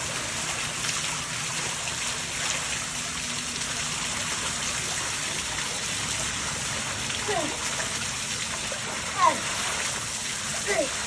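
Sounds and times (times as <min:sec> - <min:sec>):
stream water falling and splashing: 0:00.0 - 0:11.0.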